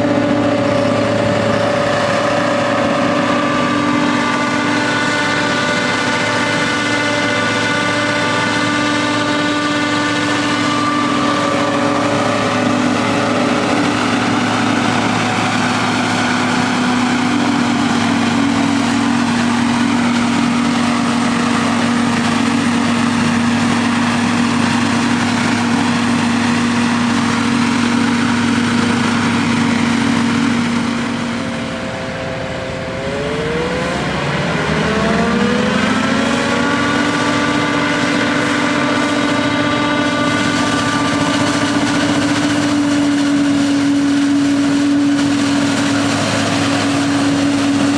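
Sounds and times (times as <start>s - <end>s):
diesel engines running: 0.0s - 47.9s
engine revving: 0.0s - 47.9s.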